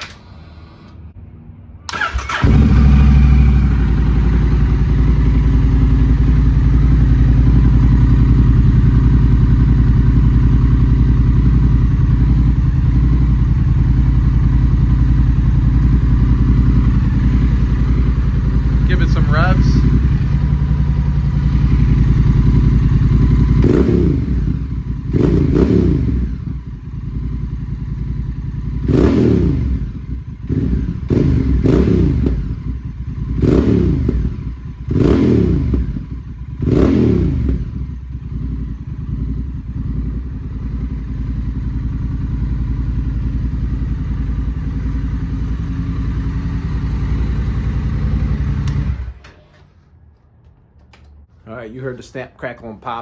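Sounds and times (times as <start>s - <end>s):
motorcycle engine revving: 1.9s - 49.9s
motorcycle engine idling: 1.9s - 51.4s.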